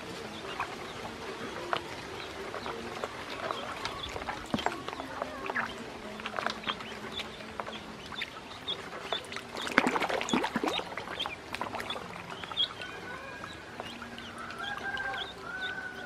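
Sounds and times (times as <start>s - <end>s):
ducklings peeping: 0.0s - 16.0s
water splashing in a tub: 0.0s - 16.0s.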